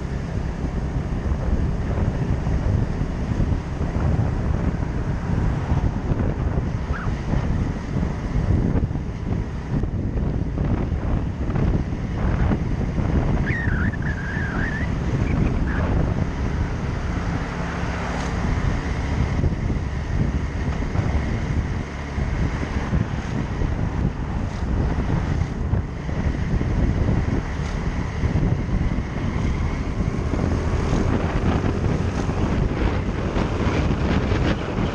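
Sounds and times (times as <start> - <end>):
motorcycle engine: 0.0 - 34.9
road noise: 0.0 - 34.9
wind buffeting microphone: 0.0 - 34.9.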